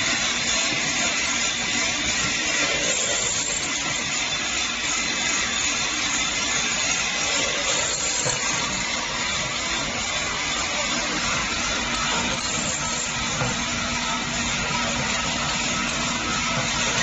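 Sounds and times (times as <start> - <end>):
filling machine running: 0.0 - 17.0.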